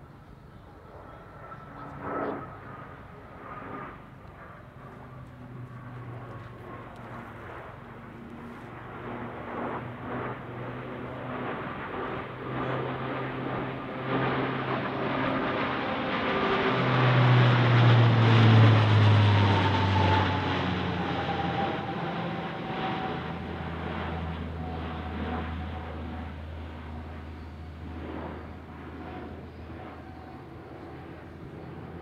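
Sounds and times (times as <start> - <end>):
turboprop aircraft passing overhead: 0.0 - 32.0.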